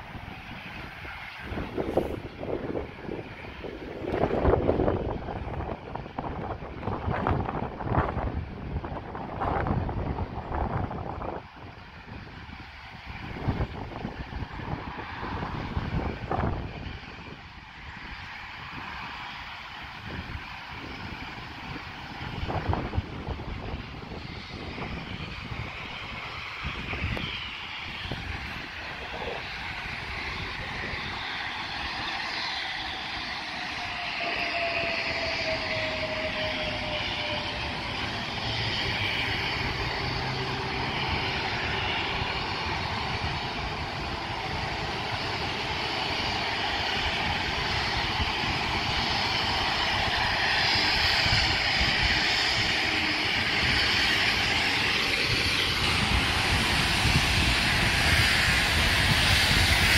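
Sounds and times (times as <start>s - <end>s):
steam locomotive rumble and hiss: 0.0s - 59.9s.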